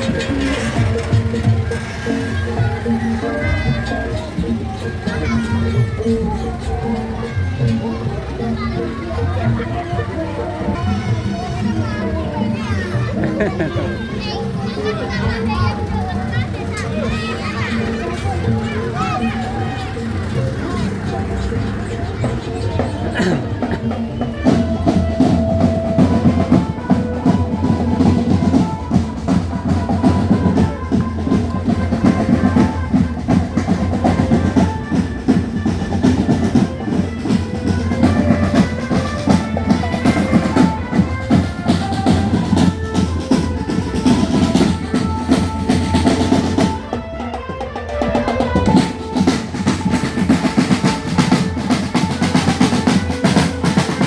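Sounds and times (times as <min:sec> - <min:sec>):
drum rolls: 0:00.0 - 0:54.0
marching drum band: 0:00.0 - 0:54.0
melody over drums: 0:00.0 - 0:54.0.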